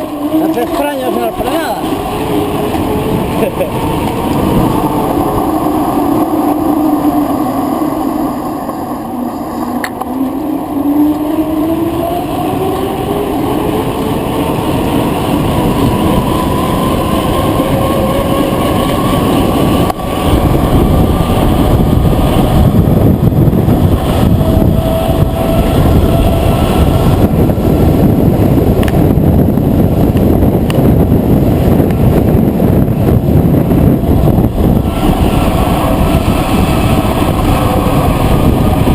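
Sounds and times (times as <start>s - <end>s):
bicycle tyre noise: 0.0s - 38.9s
wind rushing over microphone: 0.0s - 38.9s.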